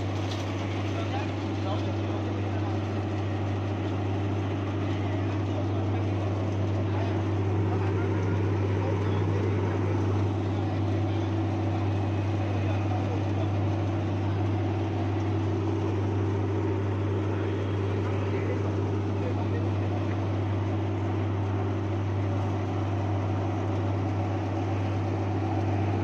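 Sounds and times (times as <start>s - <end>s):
electric motor hum: 0.0s - 26.0s
spinning shredder drum rushing: 0.0s - 26.0s.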